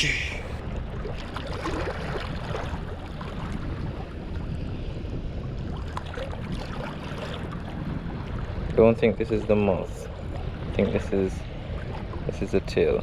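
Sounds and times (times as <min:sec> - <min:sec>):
open shore ambience: 0:00.0 - 0:13.0
wind rumbling on microphone: 0:00.0 - 0:13.0.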